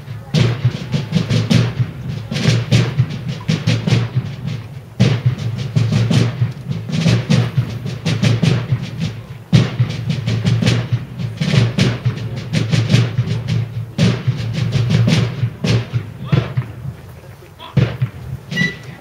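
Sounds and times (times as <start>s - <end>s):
deep booming low drum: 0.0s - 17.1s, 17.7s - 19.0s
drums playing rapid beat: 0.0s - 19.0s.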